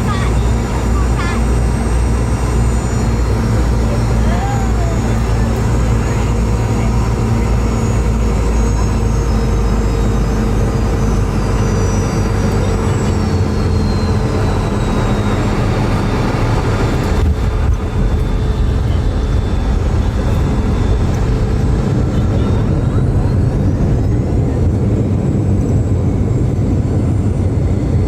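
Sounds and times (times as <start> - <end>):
high engine whine: 0.0 - 28.0
jet engine cabin roar: 0.0 - 28.0.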